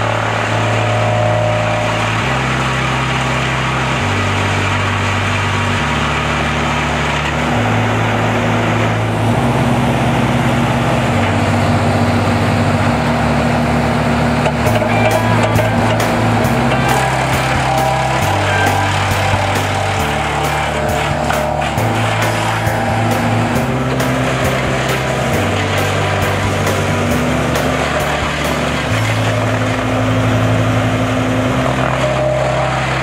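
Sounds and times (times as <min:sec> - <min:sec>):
background music with bass line: 0:00.0 - 0:33.0
log cracking in chipper: 0:00.0 - 0:33.0
wood chipper running: 0:00.0 - 0:33.0.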